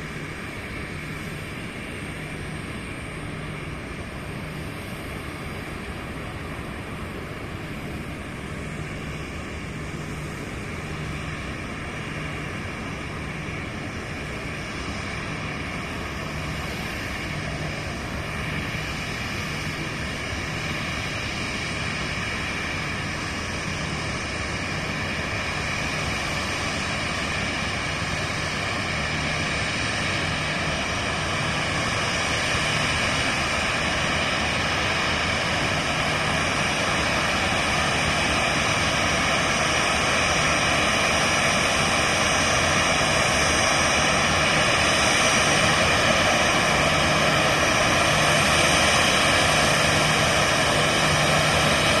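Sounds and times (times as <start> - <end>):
jet engine whine: 0.0 - 52.0.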